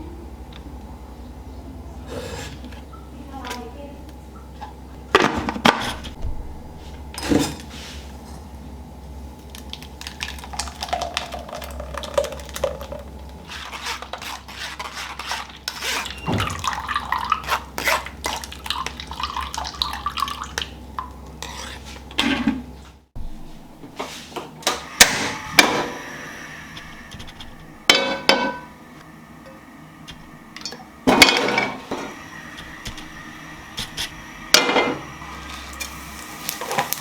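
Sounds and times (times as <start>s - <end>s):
low steady hum: 0.0s - 13.8s, 18.2s - 37.0s.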